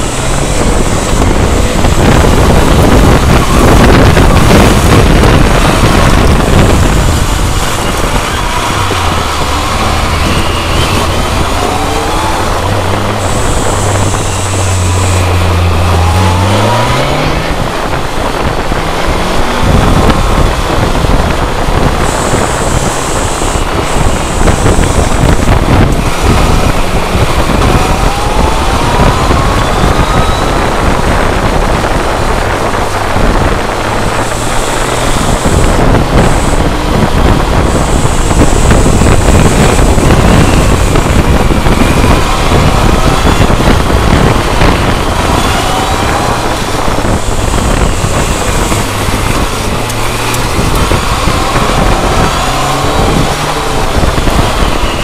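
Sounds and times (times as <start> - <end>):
motorcycle engine revving: 0.0 - 55.0
wind on microphone: 0.0 - 55.0.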